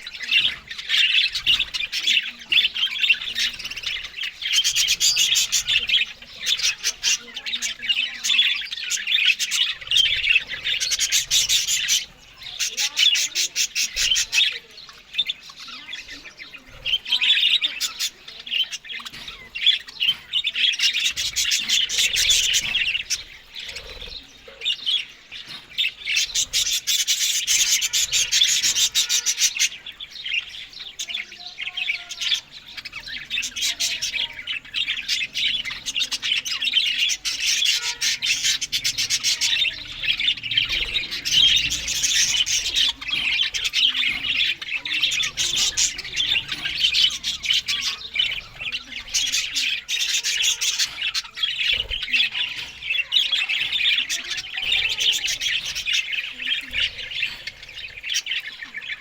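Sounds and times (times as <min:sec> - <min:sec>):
budgerigars chattering and warbling: 0:00.0 - 0:59.0.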